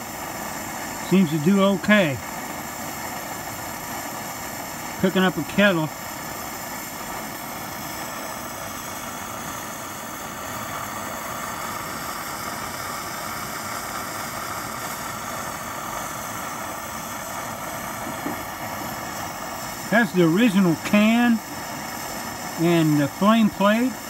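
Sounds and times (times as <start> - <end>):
stove burner hissing: 0.0 - 24.0.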